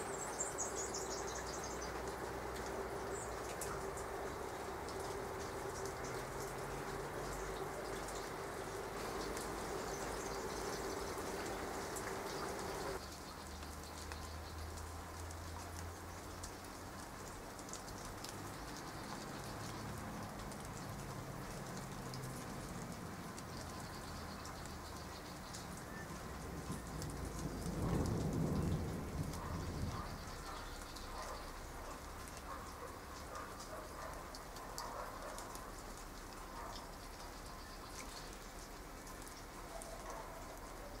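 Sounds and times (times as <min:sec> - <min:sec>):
rain falling on leaves and water: 0:00.0 - 0:41.0.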